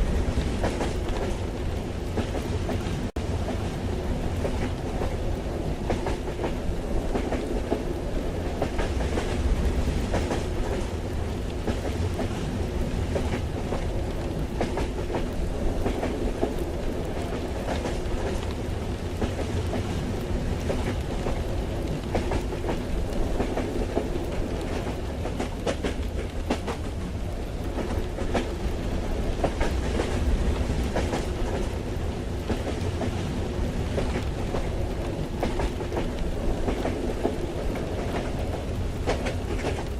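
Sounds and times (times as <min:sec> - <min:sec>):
train carriage rumble: 0:00.0 - 0:39.9
wheels clicking over rail joints: 0:04.3 - 0:39.9.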